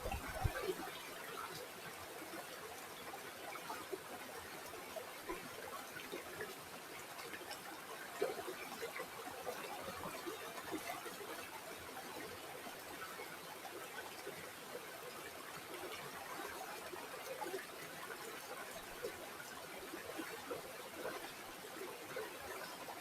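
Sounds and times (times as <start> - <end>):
river water flowing over stones: 0.0 - 23.0.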